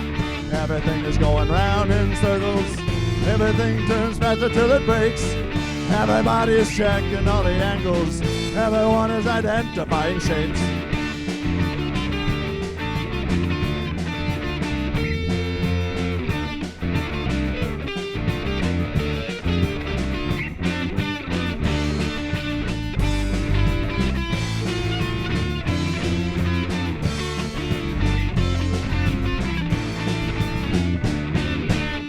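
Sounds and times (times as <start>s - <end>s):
bass guitar: 0.0s - 32.0s
electric guitars: 0.0s - 32.0s
steady drum beat: 0.0s - 32.0s.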